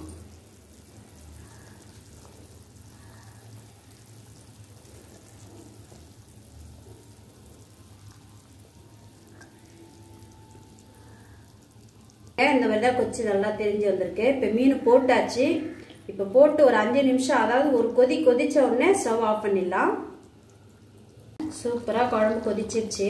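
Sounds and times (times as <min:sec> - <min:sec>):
gravy bubbling in pot: 0:00.0 - 0:23.0
low steady hum: 0:00.0 - 0:23.0.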